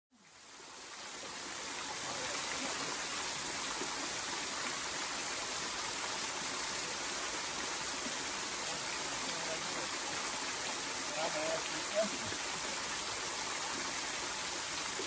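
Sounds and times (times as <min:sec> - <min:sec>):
small waterfall rushing: 0:00.1 - 0:15.0.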